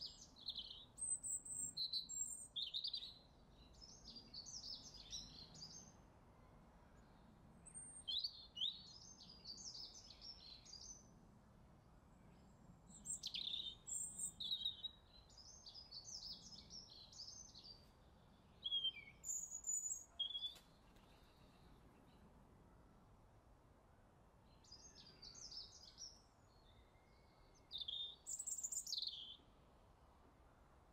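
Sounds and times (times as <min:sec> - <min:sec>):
songbird twittering chirps: 0:00.0 - 0:06.0, 0:07.0 - 0:11.1, 0:12.2 - 0:22.4, 0:24.4 - 0:29.6.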